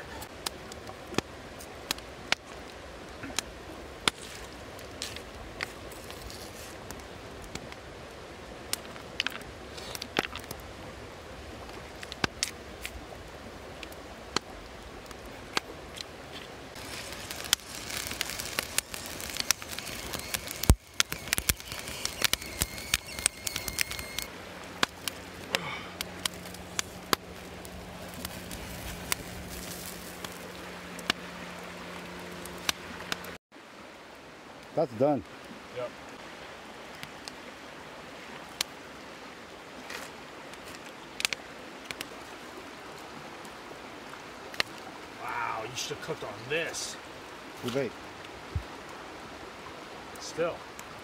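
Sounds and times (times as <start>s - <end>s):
campfire crackling and popping: 0.0s - 51.0s
flowing water: 0.0s - 51.0s.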